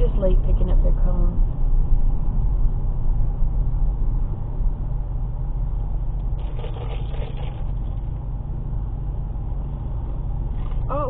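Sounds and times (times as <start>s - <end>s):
car rumbling in slow traffic: 0.0s - 11.0s.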